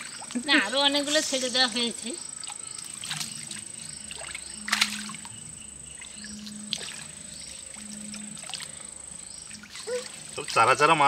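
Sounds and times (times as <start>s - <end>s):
pond water splashing: 0.0s - 1.6s, 2.4s - 11.0s
high-pitched insect buzz: 0.0s - 11.0s
low hum: 1.4s - 10.6s.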